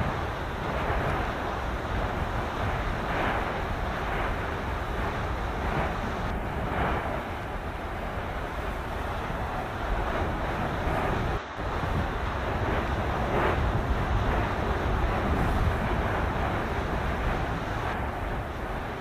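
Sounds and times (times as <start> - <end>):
steam eruption rumble and hissing roar: 0.0 - 19.0
wind buffeting microphone: 0.0 - 19.0.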